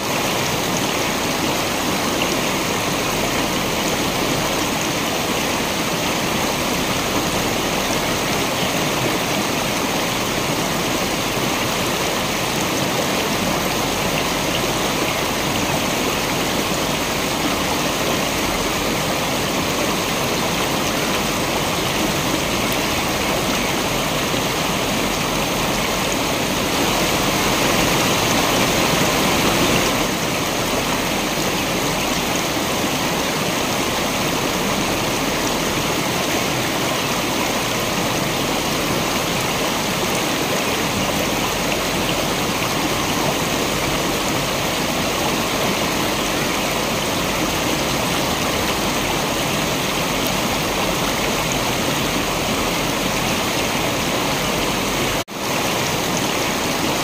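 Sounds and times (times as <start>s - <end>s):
waterfall rushing water: 0.0s - 57.0s.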